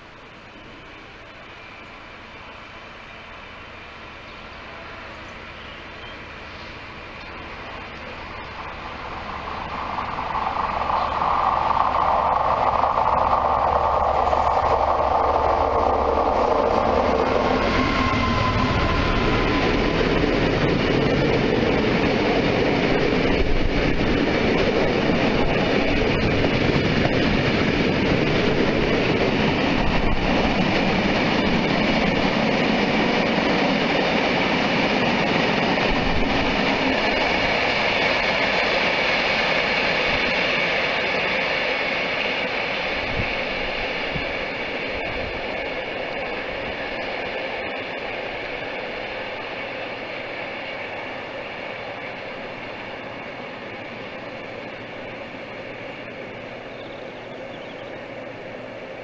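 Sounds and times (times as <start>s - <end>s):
freight train rolling on rails: 0.0s - 59.0s.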